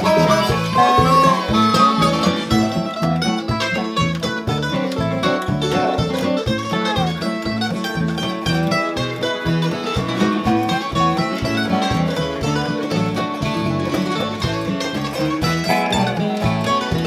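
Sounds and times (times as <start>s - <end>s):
electric bass: 0.0s - 17.0s
mandolin: 0.0s - 17.0s
resonator guitar: 0.0s - 17.0s.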